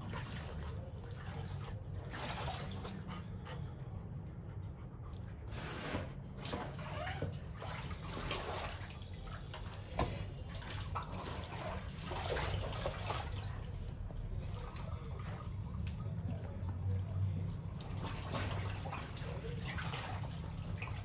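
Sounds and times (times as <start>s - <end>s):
water splashing in a bucket: 0.0s - 3.1s, 6.3s - 21.0s.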